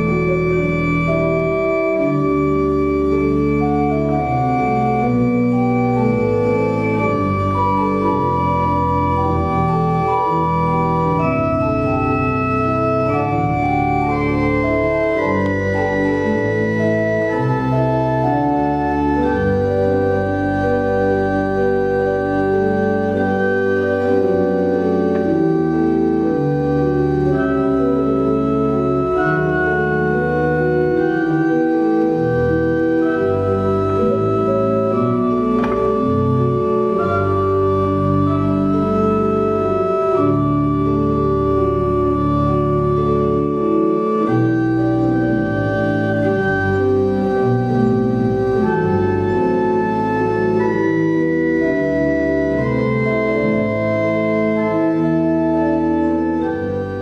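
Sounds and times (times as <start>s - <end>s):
organ chords: 0.0s - 57.0s.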